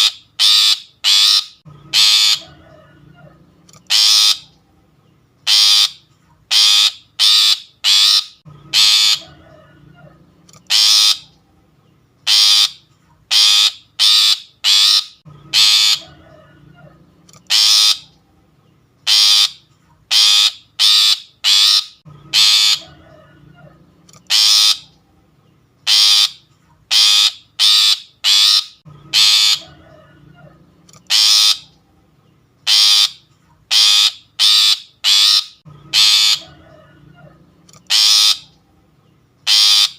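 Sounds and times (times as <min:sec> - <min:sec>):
harsh raspy bird calls: 0:00.0 - 0:04.7, 0:05.4 - 0:11.5, 0:12.2 - 0:18.3, 0:19.0 - 0:25.1, 0:25.8 - 0:31.9, 0:32.6 - 0:38.8, 0:39.4 - 0:39.9.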